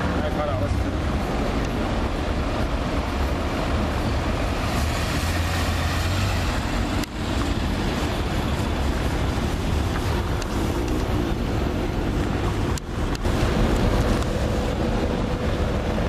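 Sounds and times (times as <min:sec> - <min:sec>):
car engine deep rumble: 0:00.0 - 0:16.0.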